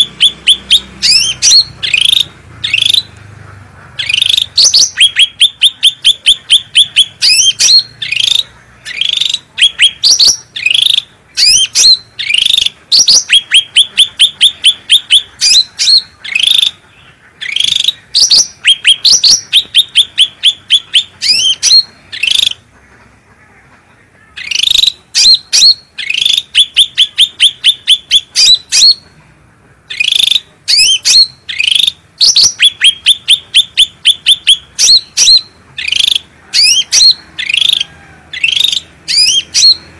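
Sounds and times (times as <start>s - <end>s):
songbird chirping in fast runs: 0.0s - 22.8s, 23.9s - 39.9s.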